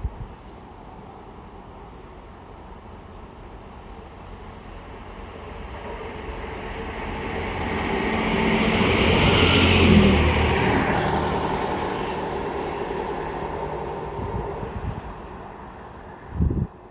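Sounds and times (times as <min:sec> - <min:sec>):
diesel train approaching: 0:00.2 - 0:16.9.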